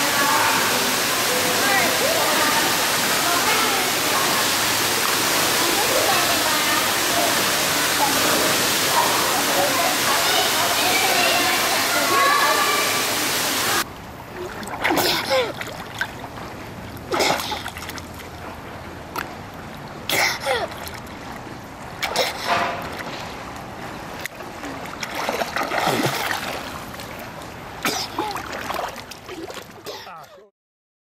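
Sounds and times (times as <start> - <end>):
swimmer's strokes splashing: 0.0 - 18.4, 19.2 - 30.1
water sloshing: 0.0 - 30.5.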